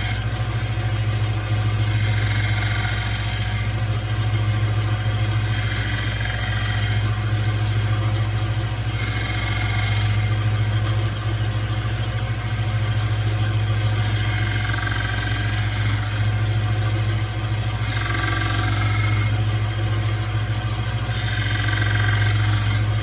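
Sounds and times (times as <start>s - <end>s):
belt sander humming: 0.0s - 23.0s.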